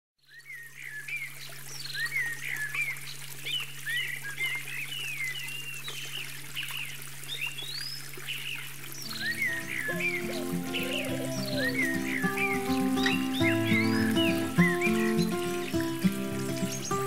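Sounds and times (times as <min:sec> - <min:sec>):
small birds singing: 0:00.2 - 0:17.0
shallow water trickling: 0:00.3 - 0:17.0.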